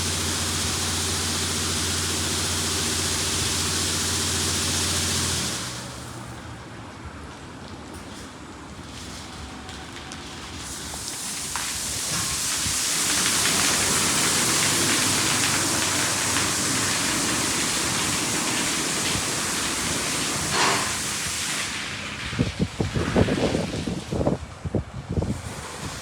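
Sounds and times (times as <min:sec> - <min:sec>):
high-pressure water spray on car: 0:00.0 - 0:06.3, 0:10.2 - 0:24.4, 0:25.2 - 0:26.0.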